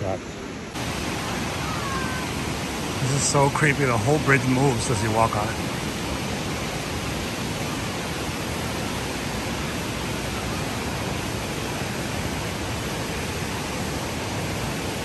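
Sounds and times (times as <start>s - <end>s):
whitewater rushing: 0.0s - 15.0s.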